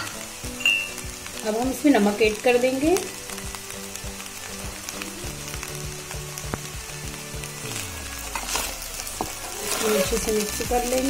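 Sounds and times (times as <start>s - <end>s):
rice sizzling in a pan: 0.0s - 11.0s.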